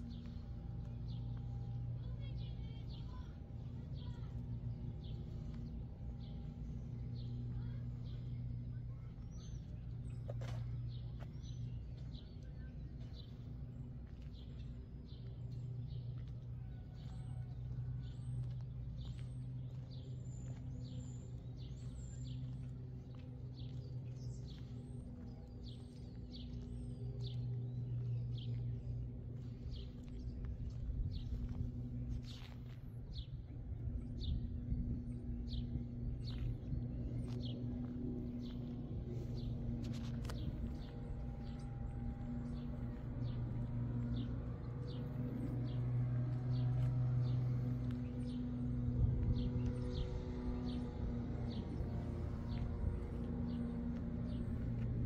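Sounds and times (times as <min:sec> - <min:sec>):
small birds chirping: 0:00.0 - 0:55.0
steady low hum: 0:00.0 - 0:55.0.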